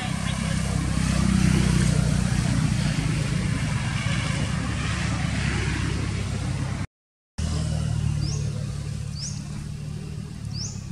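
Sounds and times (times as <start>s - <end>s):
engine humming: 0.0s - 10.9s.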